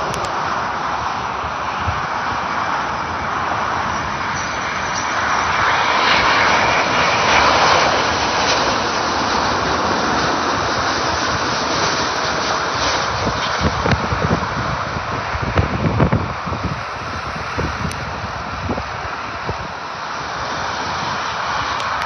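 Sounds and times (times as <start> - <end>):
jet airliner flying overhead: 0.0 - 22.0.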